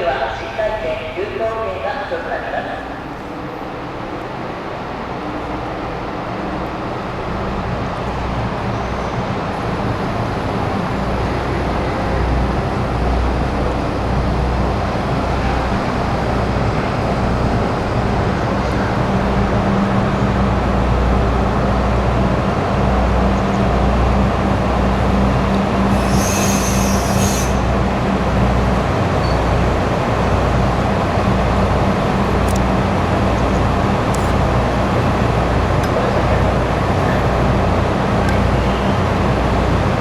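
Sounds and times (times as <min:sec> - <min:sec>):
train rumbling and humming: 0:00.0 - 0:40.0.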